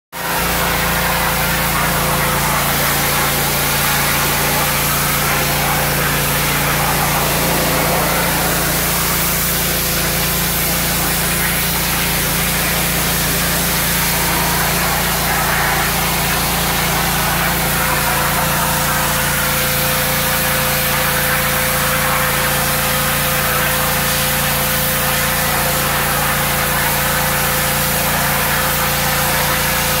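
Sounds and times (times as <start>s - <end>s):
pressure washer running: 0.2s - 30.0s.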